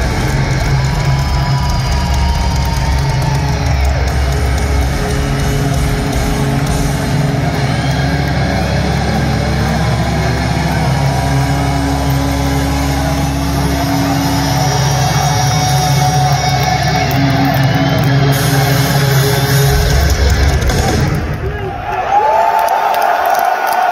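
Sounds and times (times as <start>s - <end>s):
distorted electric guitars: 0.0s - 21.6s.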